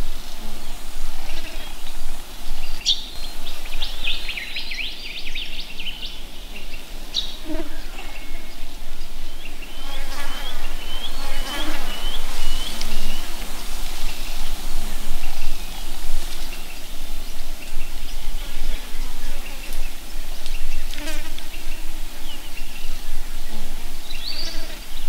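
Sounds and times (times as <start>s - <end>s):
insects buzzing: 0.0s - 25.0s
small birds chirping: 0.0s - 25.0s.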